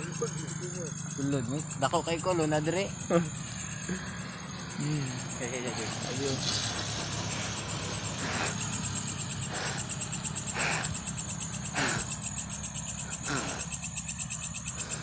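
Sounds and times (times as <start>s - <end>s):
cricket-like insect trill: 0.0s - 15.0s.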